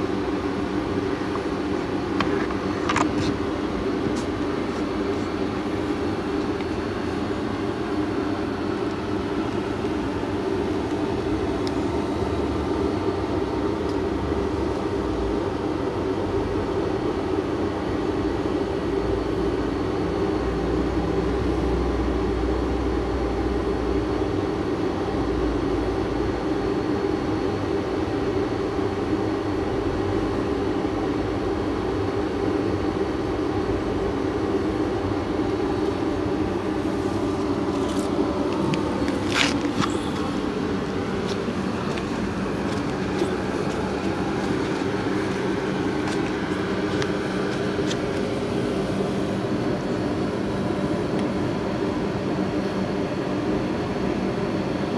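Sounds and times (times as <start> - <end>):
machine droning hum: 0.0 - 54.9.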